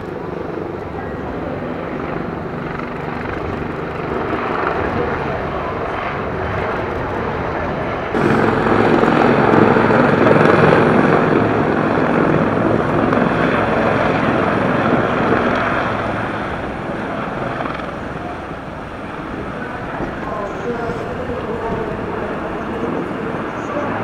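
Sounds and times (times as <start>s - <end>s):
helicopters flying past: 0.0s - 24.0s.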